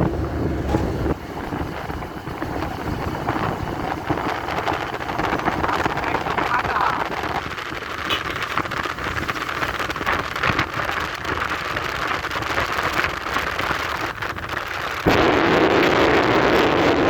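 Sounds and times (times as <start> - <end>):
motorcycle road noise: 0.0 - 17.0
rushing wind: 0.0 - 17.0.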